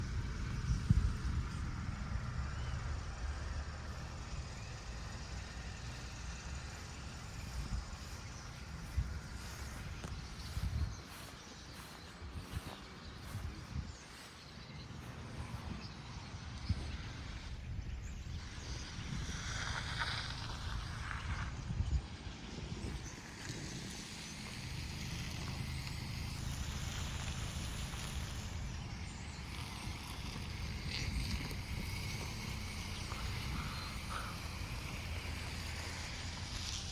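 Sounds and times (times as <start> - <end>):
flock of sparrows chirping: 0.0 - 36.9
steady low rumble: 0.0 - 36.9.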